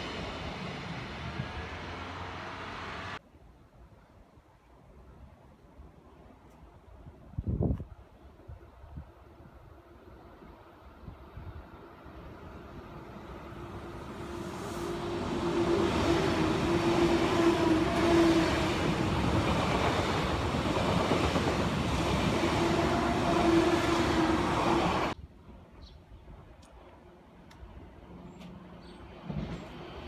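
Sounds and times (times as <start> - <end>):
electric train passing at speed: 0.0 - 3.2, 8.4 - 30.0.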